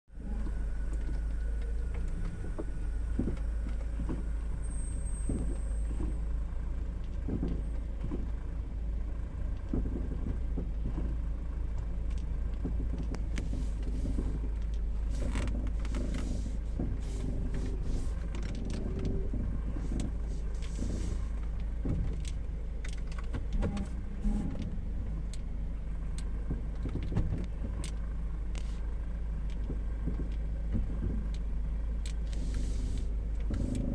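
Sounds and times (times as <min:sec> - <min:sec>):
car low rumble: 0:00.0 - 0:33.9
short knocks and creaks: 0:00.4 - 0:08.6, 0:09.4 - 0:33.9.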